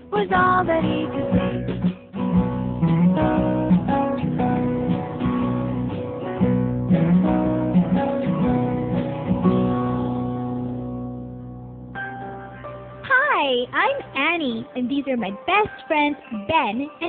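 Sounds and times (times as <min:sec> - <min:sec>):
acoustic guitar strumming: 0:00.0 - 0:16.9.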